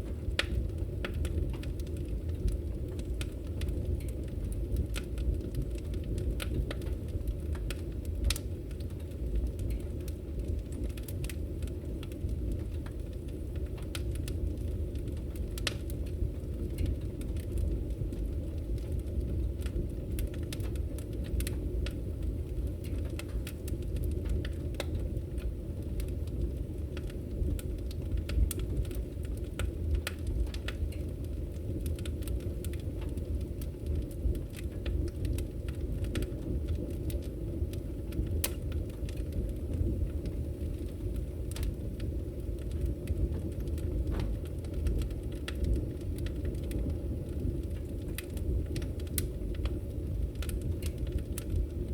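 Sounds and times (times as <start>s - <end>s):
low rumble of fire: 0.0s - 51.9s
wood crackling and popping: 0.0s - 51.9s.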